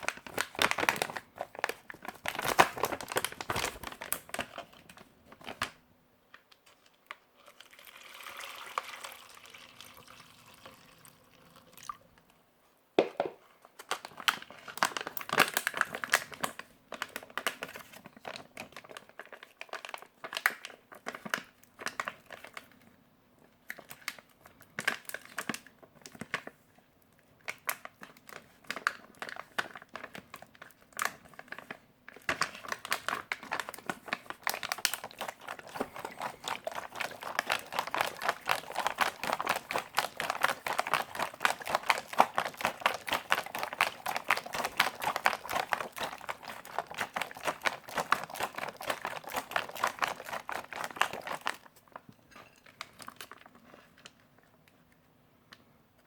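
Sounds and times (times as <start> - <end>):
packaging crinkling and rustling: 0.0 - 7.7, 13.1 - 55.0.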